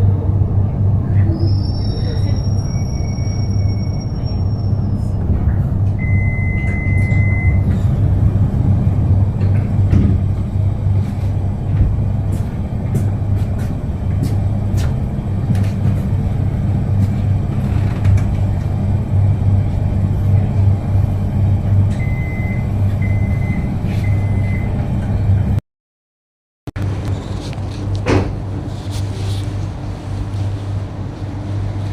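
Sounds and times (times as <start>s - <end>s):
train rumble and hum: 0.0s - 25.6s, 26.8s - 31.9s.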